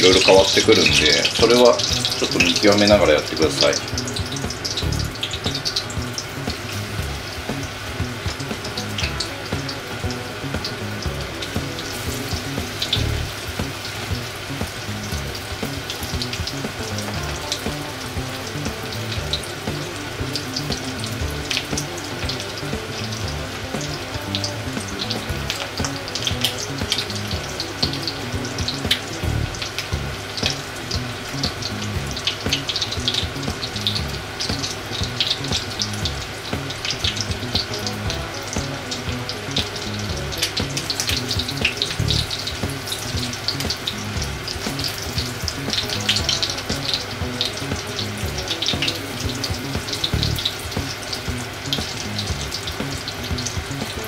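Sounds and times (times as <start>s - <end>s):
cutlets sizzling in oil: 0.0s - 54.0s.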